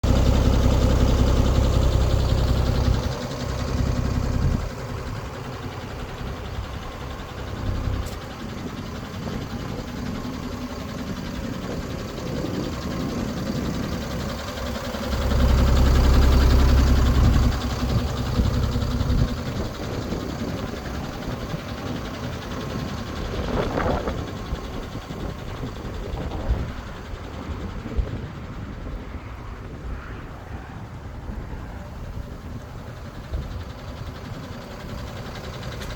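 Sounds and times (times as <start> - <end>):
diesel truck engine idling: 0.0 - 35.9.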